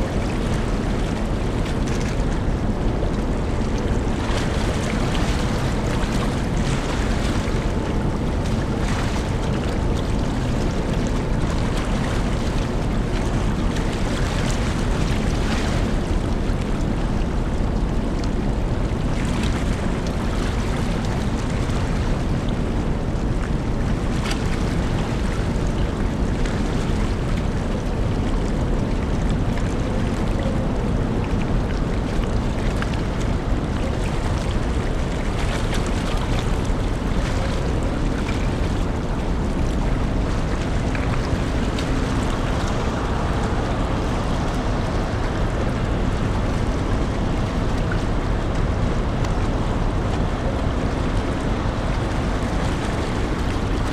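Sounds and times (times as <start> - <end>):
ferry engine rumble and rushing: 0.0 - 53.9
wind buffeting microphone: 0.0 - 53.9.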